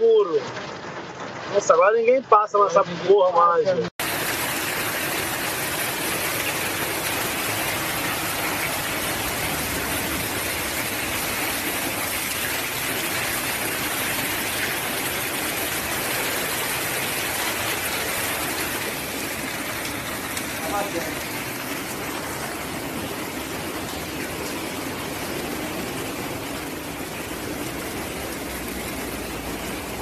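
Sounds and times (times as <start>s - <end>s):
hail and rain pelting ground: 0.0s - 30.0s.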